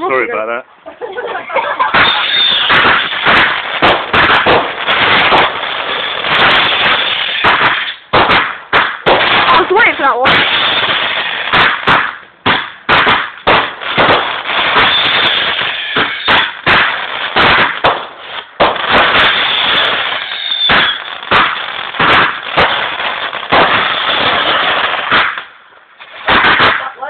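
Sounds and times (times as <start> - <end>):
fireworks crackling: 1.3 - 27.0
fireworks bangs: 1.4 - 27.0.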